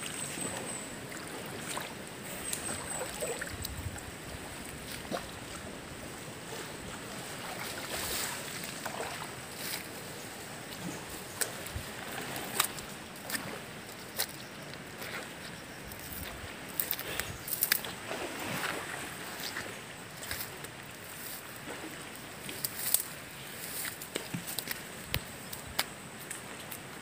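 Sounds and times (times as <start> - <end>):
river water lapping: 0.0 - 27.0.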